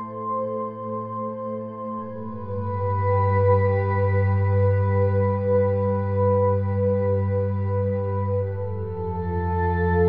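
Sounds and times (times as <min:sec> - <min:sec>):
ambient music sustained chord: 0:00.0 - 0:10.0.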